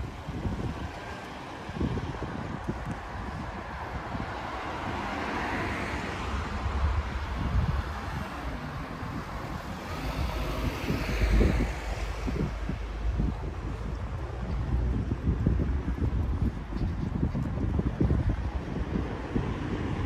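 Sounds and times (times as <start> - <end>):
cars passing: 0.0 - 20.0
wind rumble on microphone: 0.0 - 20.0.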